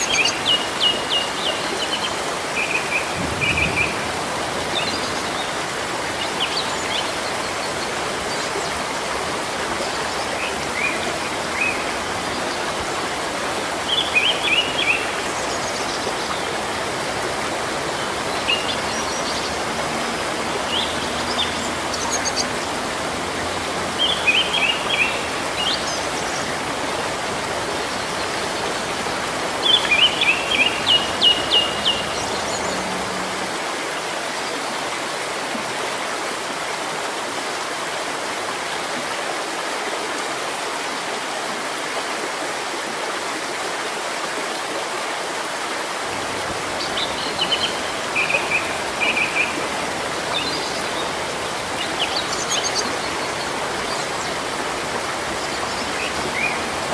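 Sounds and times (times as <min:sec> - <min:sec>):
rain falling on leafy trees: 0:00.0 - 0:56.9.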